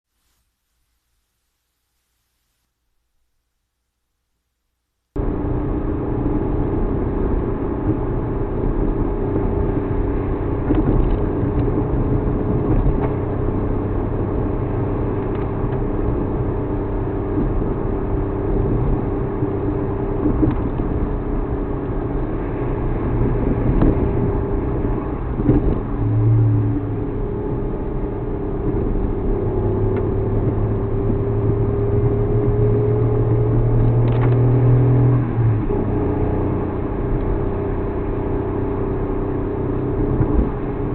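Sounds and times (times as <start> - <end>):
car engine drone: 5.2 - 40.9
deeper hum: 5.2 - 40.9
road noise: 5.2 - 40.9.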